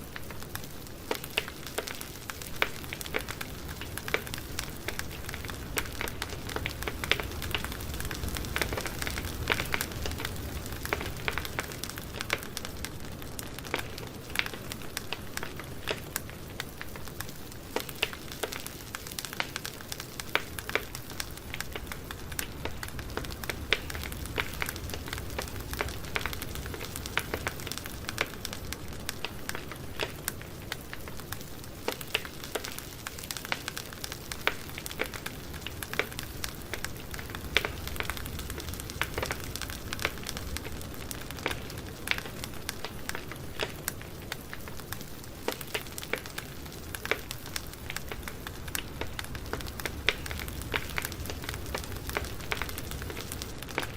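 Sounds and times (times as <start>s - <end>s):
low rumble of flames: 0.0s - 53.9s
wood crackling and popping: 0.0s - 53.9s.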